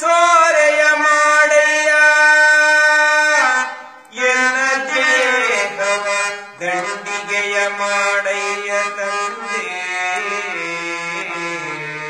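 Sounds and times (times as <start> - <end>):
harmonium: 0.0 - 12.0
man singing devotional song: 0.0 - 12.0.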